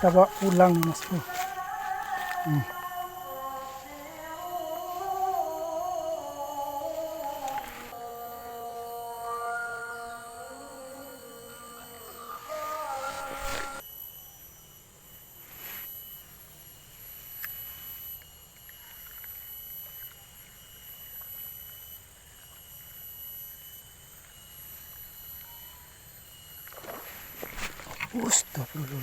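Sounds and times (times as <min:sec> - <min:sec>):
steady high-pitched tones: 0:00.0 - 0:26.6.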